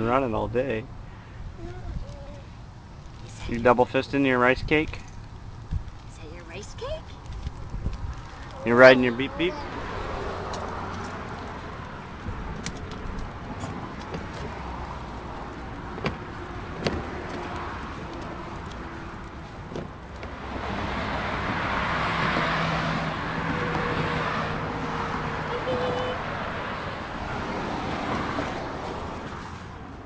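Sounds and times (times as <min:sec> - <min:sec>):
road vehicle rumble: 0:00.0 - 0:30.0
car passing: 0:02.8 - 0:30.0.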